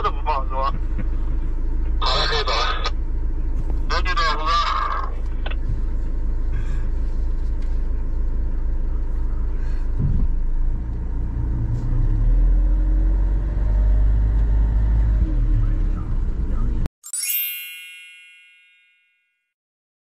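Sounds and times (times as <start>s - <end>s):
engine and road rumble: 0.0s - 16.9s.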